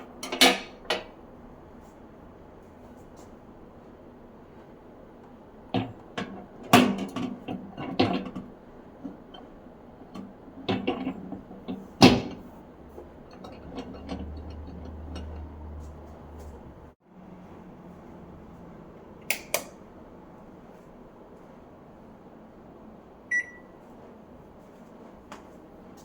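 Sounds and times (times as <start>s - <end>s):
microwave low hum: 0.0s - 26.0s.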